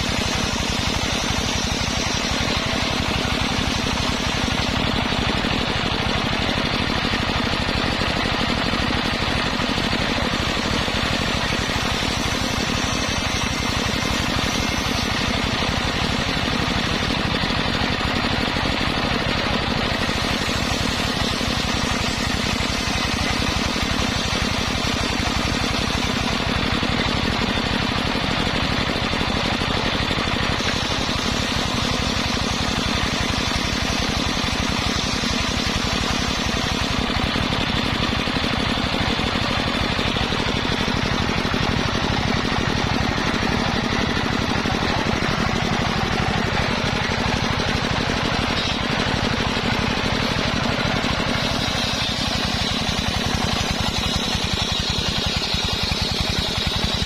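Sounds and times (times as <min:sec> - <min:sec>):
motor chugging: 0:00.0 - 0:57.0
saw blade whirring: 0:00.0 - 0:57.0.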